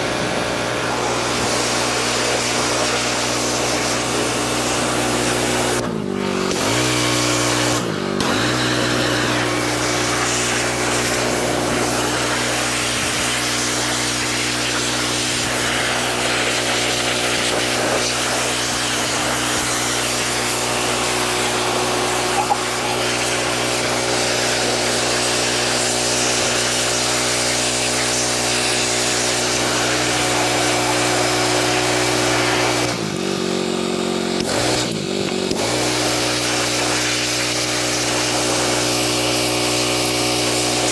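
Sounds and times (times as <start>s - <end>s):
water spray hissing: 0.0s - 33.5s, 34.4s - 40.9s
pressure washer engine running: 0.0s - 40.9s.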